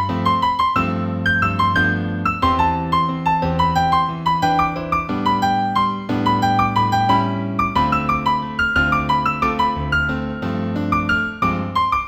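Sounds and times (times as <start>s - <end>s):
solo piano piece: 0.0s - 12.0s.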